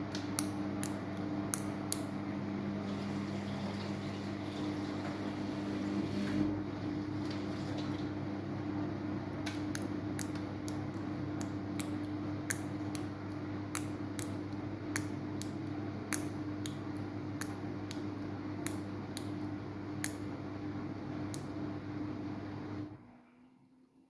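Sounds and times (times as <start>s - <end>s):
washing machine motor hum: 0.0s - 23.7s.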